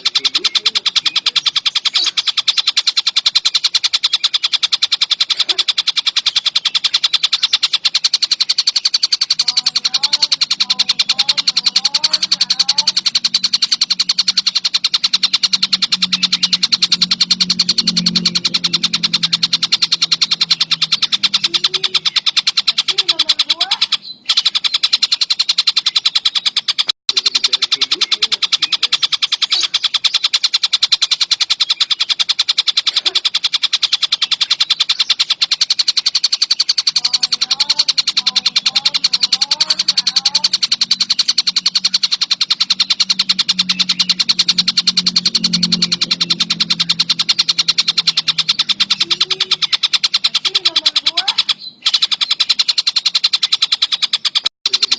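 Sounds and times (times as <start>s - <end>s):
kingfisher rattling trill: 0.0s - 54.9s
softer lower bird calls: 0.0s - 54.9s.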